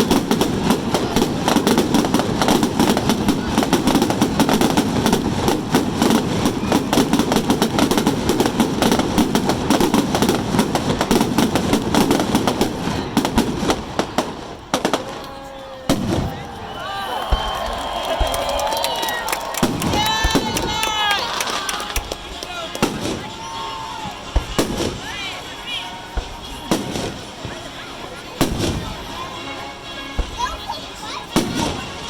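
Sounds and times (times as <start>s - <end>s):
fireworks crackling bursts: 0.0s - 32.0s.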